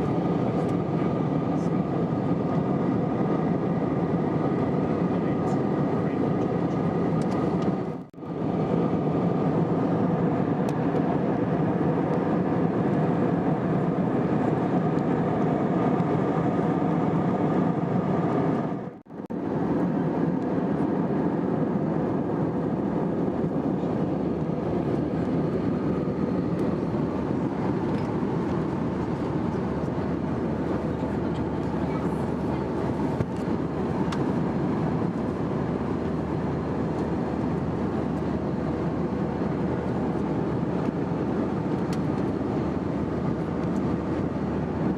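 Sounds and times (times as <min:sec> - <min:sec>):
aircraft cabin engine drone: 0:00.0 - 0:44.9.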